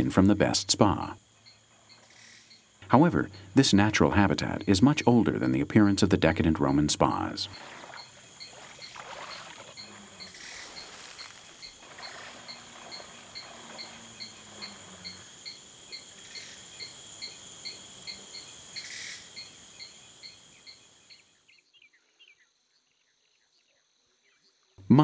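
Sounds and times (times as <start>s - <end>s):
high-pitched insect drone: 0.0s - 21.4s
insect chirping: 0.0s - 25.0s.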